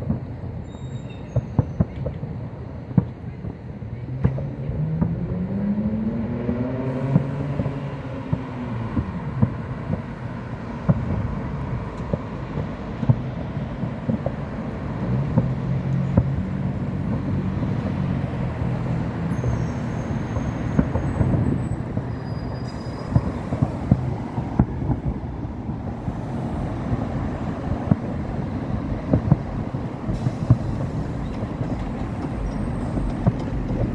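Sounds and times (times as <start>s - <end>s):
fireworks banging: 0.0s - 33.9s
passing vehicle motor hum: 4.1s - 33.9s.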